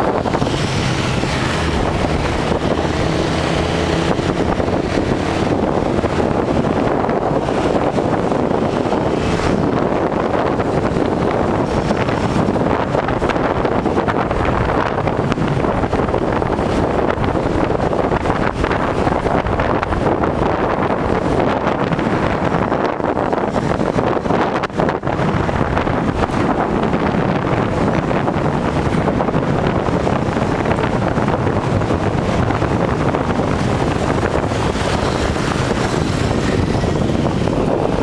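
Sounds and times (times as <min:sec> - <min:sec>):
motorcycle engine: 0:00.0 - 0:38.0
road noise: 0:00.0 - 0:38.0
wind rushing over microphone: 0:00.0 - 0:38.0.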